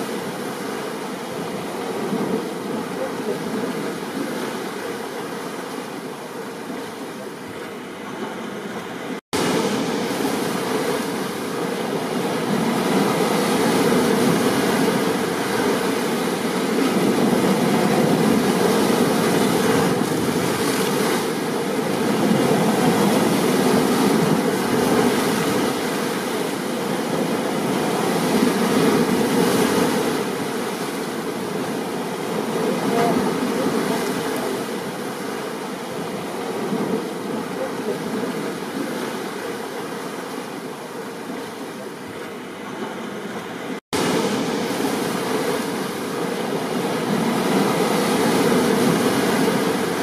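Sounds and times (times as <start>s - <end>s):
ocean surf: 0.0s - 50.0s.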